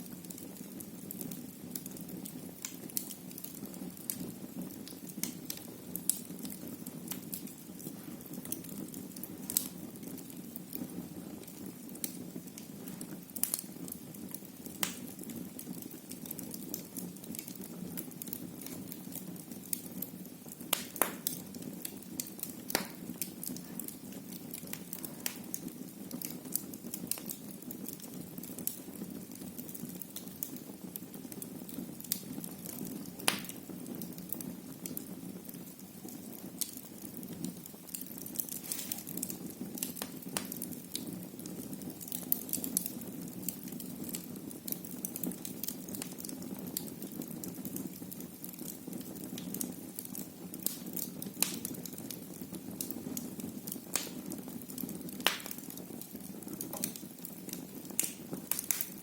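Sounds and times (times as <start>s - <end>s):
low rumble of flames: 0.0s - 59.0s
wood crackling and popping: 0.0s - 59.0s.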